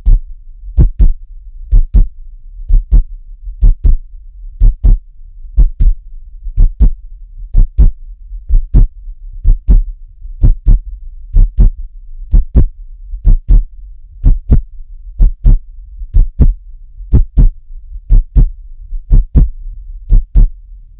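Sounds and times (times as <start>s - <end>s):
heartbeat: 0.0s - 5.0s, 5.6s - 20.6s
faint low hum: 0.0s - 20.9s.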